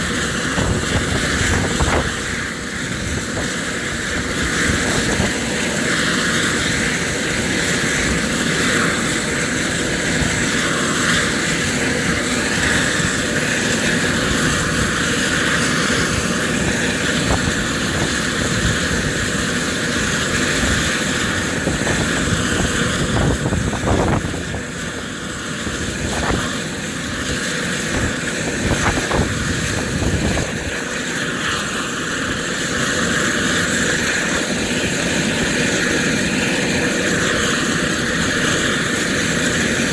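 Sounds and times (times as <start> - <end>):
helicopter turbine whine: 0.0 - 39.9
rushing rumble of rotor: 0.0 - 39.9.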